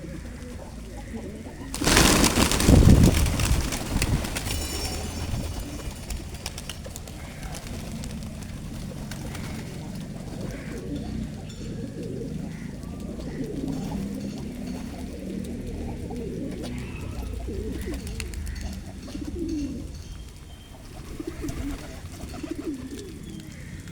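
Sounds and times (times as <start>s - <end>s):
pigeons cooing: 0.0s - 23.9s.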